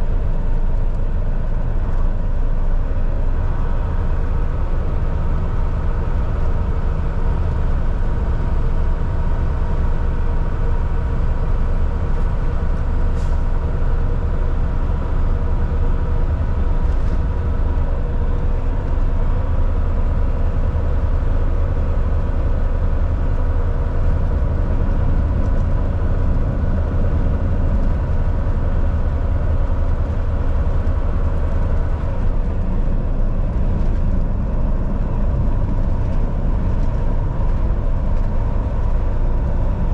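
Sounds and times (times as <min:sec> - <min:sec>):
diesel truck engine drone: 0:00.0 - 0:39.9
tyre and road noise: 0:00.0 - 0:39.9.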